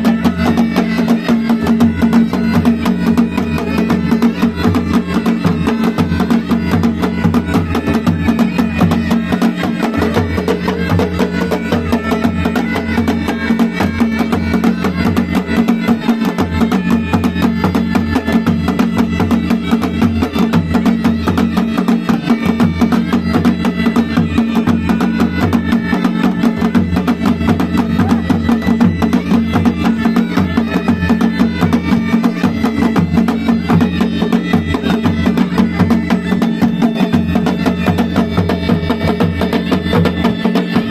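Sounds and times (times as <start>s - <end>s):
bagpipes playing a melody: 0.0s - 40.9s
fast drumming: 0.0s - 40.9s.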